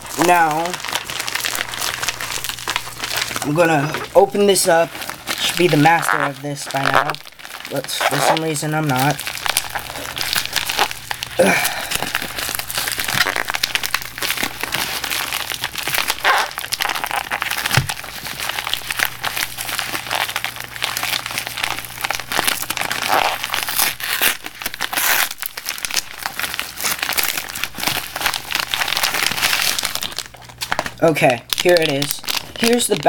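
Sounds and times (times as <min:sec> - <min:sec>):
packaging crinkling and rustling: 0:00.0 - 0:33.0.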